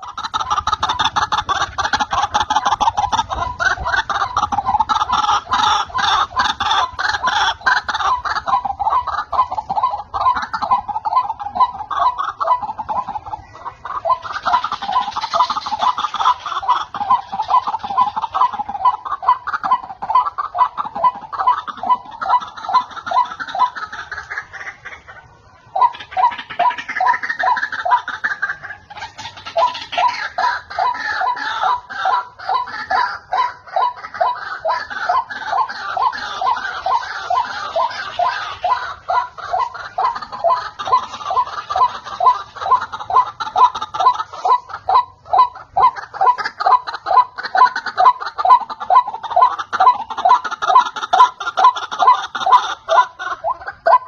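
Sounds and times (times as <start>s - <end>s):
bird croaking call: 0.0s - 54.0s.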